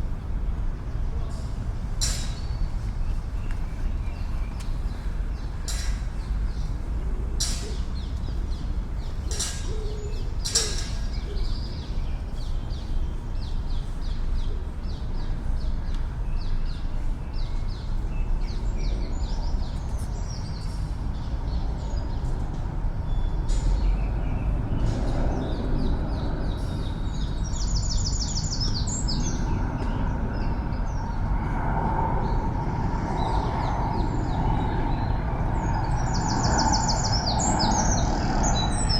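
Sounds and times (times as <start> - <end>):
city traffic rumble: 0.0 - 38.9
songbirds chirping and trilling: 0.1 - 38.9.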